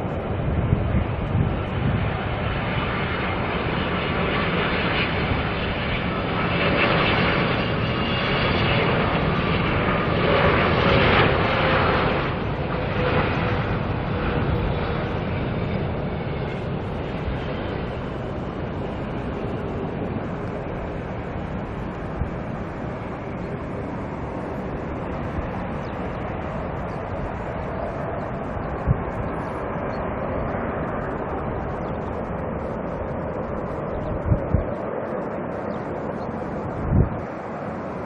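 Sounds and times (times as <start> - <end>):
airliner engine noise: 0.0 - 38.0.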